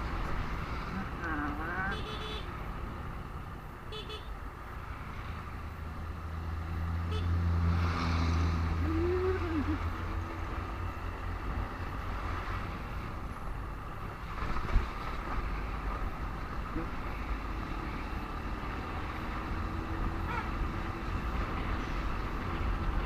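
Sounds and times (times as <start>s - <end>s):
road noise: 0.0s - 23.0s.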